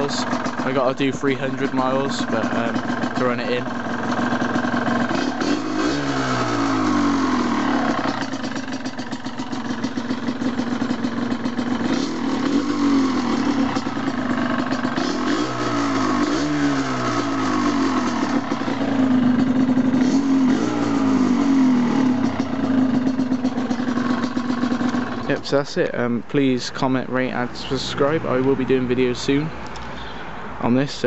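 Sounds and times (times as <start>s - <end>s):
two-stroke engine revving: 0.0s - 25.6s.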